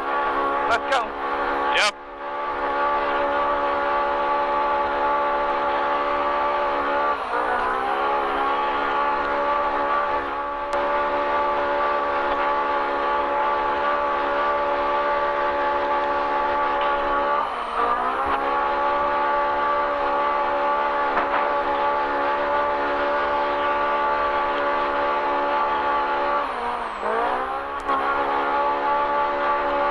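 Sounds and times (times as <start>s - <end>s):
off-road vehicle engine revving: 0.0s - 29.9s.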